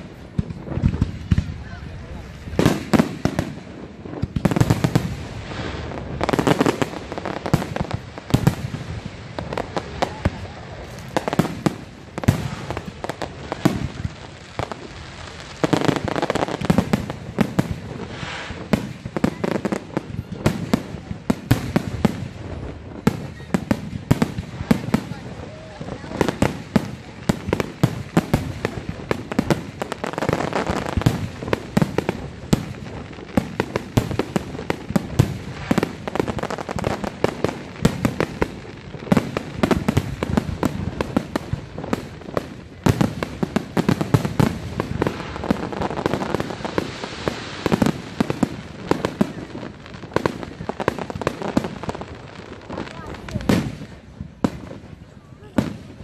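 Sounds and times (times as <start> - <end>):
fireworks bursting and launching: 0.0 - 56.0.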